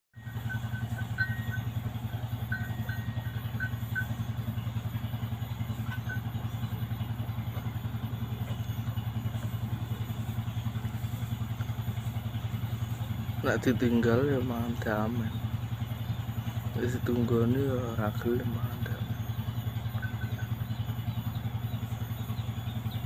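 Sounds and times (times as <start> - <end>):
small engine idling: 0.1 - 23.0.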